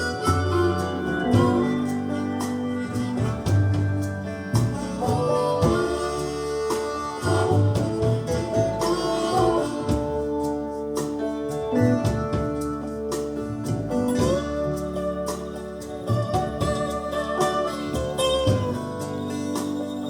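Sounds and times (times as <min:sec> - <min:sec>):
bass: 0:00.0 - 0:20.0
blues guitar melodic lines: 0:00.0 - 0:20.0
steady drum beat: 0:00.0 - 0:20.0.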